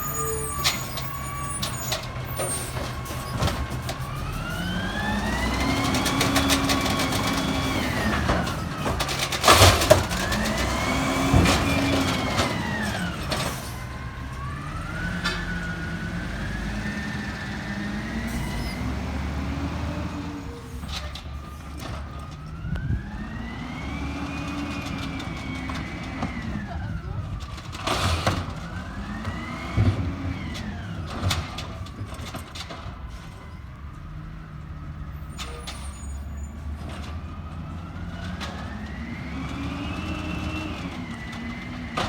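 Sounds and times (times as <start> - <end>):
diesel truck engine revving: 0.0 - 32.1, 33.8 - 42.0.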